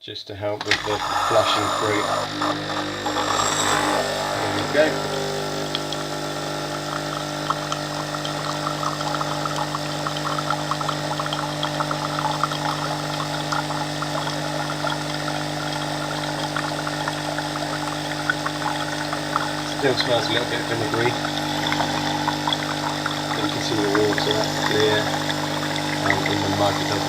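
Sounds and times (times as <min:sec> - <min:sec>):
coffee machine pump humming: 0:00.5 - 0:27.0
hot water trickling into mug: 0:00.6 - 0:27.0.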